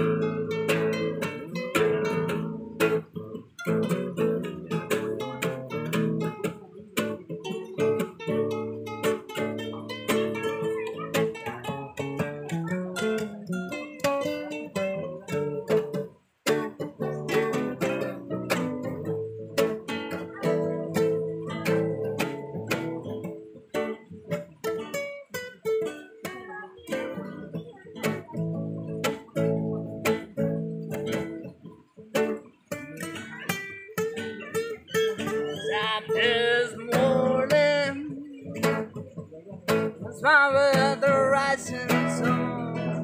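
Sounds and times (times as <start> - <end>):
acoustic guitars playing: 0.0 - 43.0.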